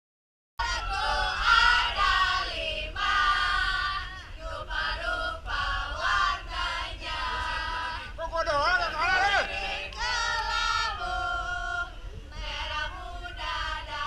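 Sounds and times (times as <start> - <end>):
group chanting in unison: 0.6 - 8.2, 9.2 - 14.0.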